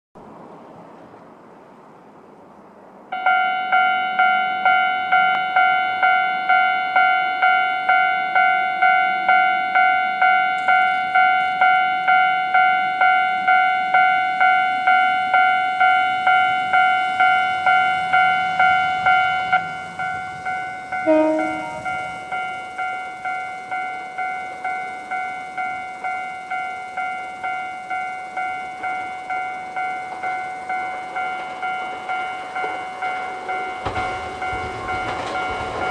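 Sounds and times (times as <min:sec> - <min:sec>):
level-crossing warning bell ringing: 0:03.1 - 0:35.9.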